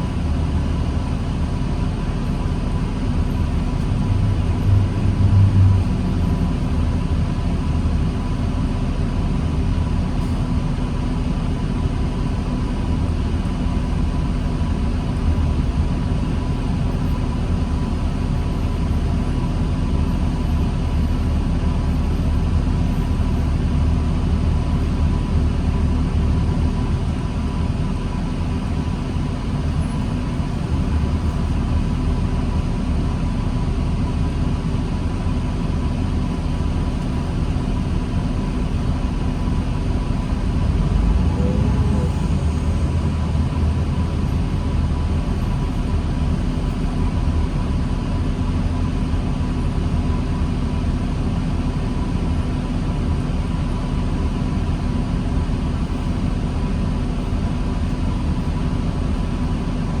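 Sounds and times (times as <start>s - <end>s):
bus diesel engine running: 0.0s - 60.0s.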